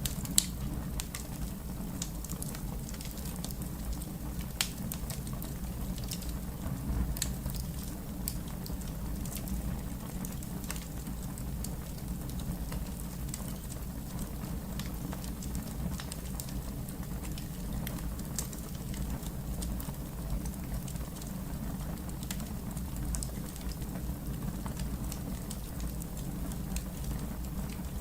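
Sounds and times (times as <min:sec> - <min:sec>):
low rumble of flames: 0:00.0 - 0:28.0
wood fire crackling: 0:00.0 - 0:28.0.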